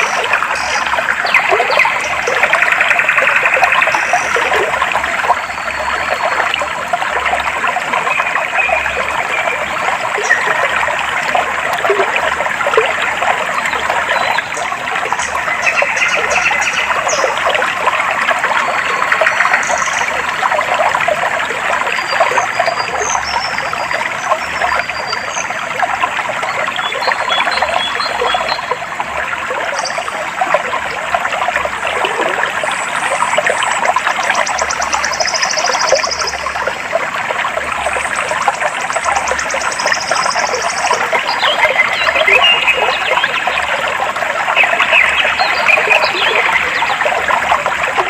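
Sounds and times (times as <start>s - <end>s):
water flowing and trickling: 0.0s - 48.0s.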